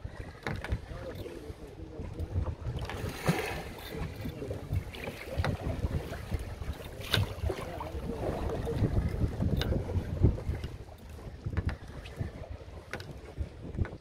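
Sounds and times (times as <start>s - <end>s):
sea and hull noise: 0.0s - 14.0s
wind buffeting microphone: 0.0s - 14.0s.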